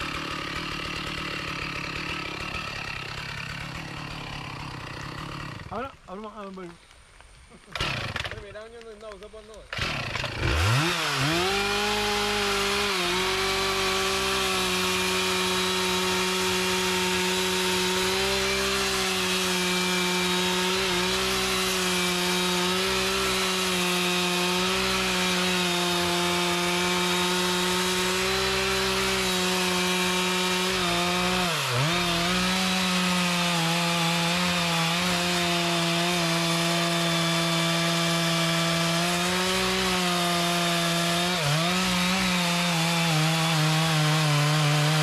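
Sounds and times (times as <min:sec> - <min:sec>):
chainsaw cutting wood: 0:00.0 - 0:06.7, 0:07.5 - 0:45.0.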